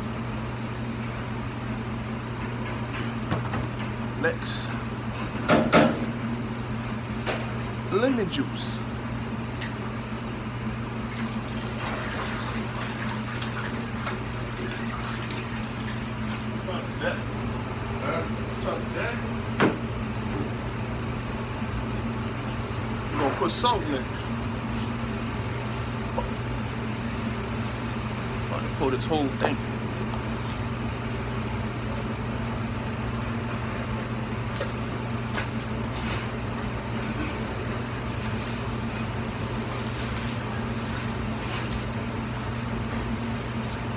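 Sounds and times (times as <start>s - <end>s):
low mechanical hum: 0.0s - 43.9s.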